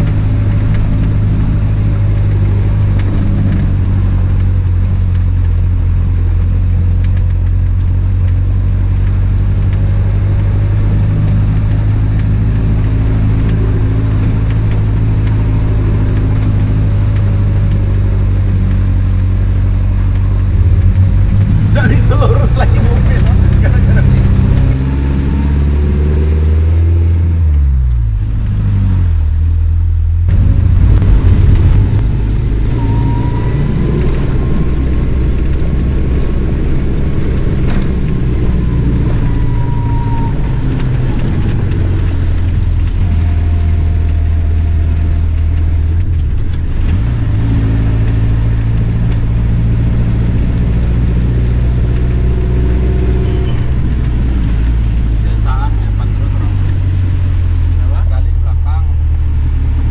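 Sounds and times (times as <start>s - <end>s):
tyre and road noise: 0.0s - 59.9s
vehicle engine running: 0.0s - 59.9s.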